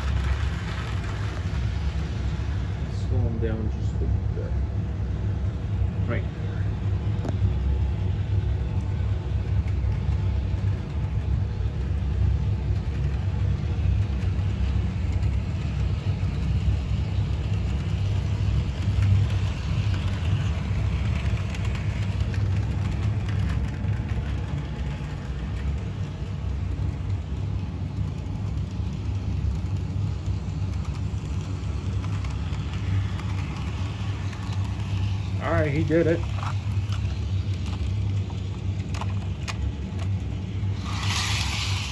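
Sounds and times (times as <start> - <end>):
model train motor hum: 0.0 - 41.9
model train wheel rumble: 0.0 - 41.9.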